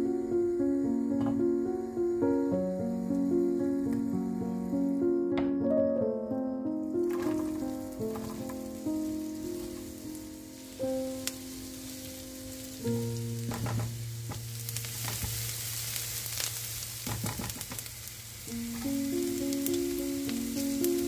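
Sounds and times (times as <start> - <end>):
onions sizzling in oil: 0.0 - 5.3, 6.8 - 21.0
soft background music: 0.0 - 16.0, 18.5 - 21.0.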